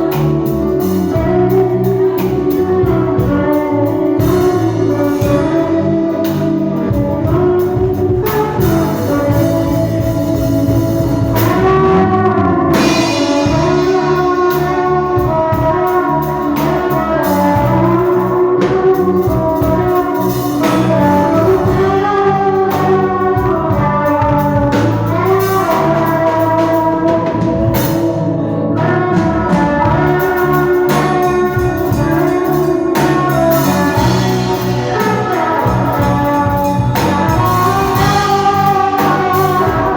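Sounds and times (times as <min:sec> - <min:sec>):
melodic lead line: 0:00.0 - 0:39.9
steady drum beat: 0:00.0 - 0:39.9.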